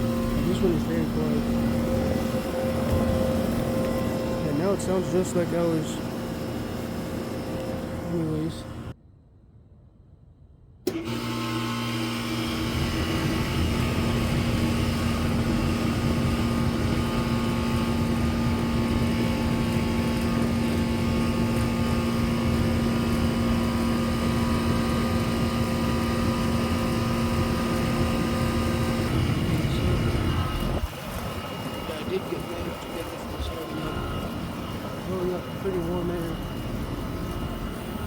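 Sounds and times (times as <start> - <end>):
compressor hum: 0.0 - 9.0, 10.8 - 38.0
fan blowing air: 0.0 - 9.0, 10.8 - 38.0.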